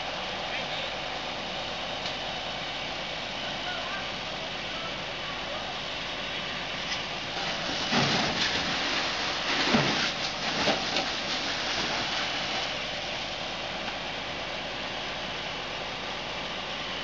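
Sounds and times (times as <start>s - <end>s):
fire hose spraying water: 0.0s - 17.0s.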